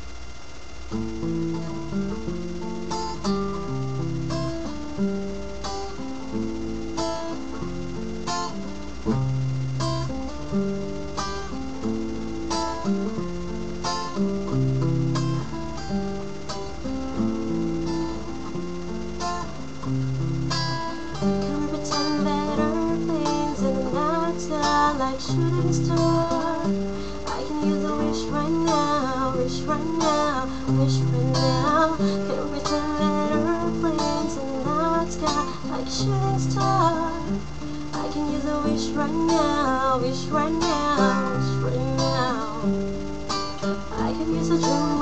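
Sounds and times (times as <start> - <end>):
acoustic guitar music: 0.8 - 45.0.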